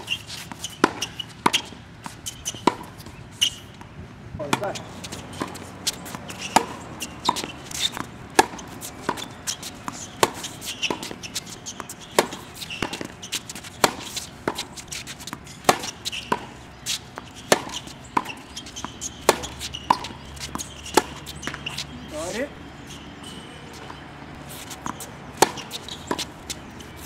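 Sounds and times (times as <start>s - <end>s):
tennis ball hit and bouncing: 0.0s - 27.0s.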